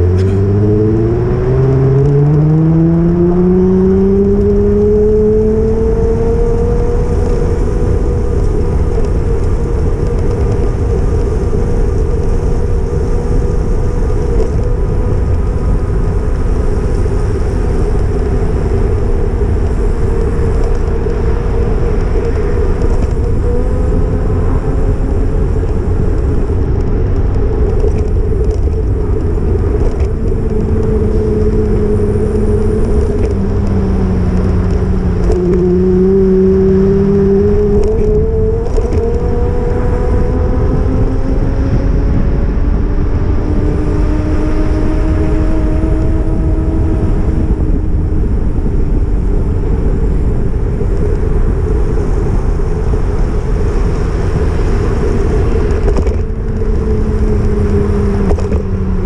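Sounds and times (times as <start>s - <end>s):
bicycle riding rumble: 0.0s - 59.0s
wind noise: 0.0s - 59.0s.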